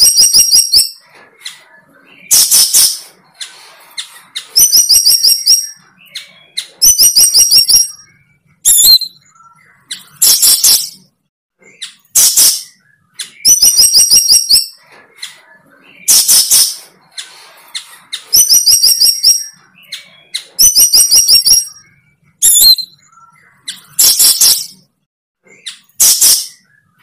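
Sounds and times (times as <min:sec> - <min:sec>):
bird squawking and chirping: 0:00.0 - 0:27.0.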